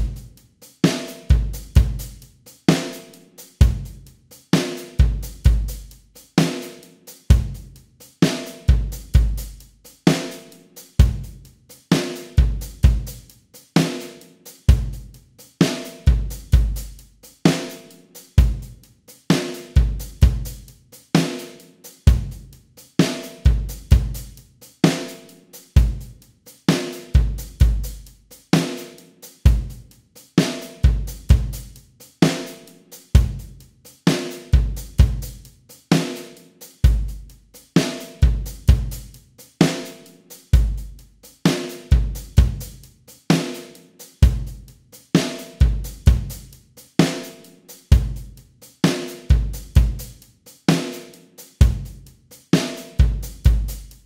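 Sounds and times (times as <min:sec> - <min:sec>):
acoustic drum kit beat: 0:00.0 - 0:54.0.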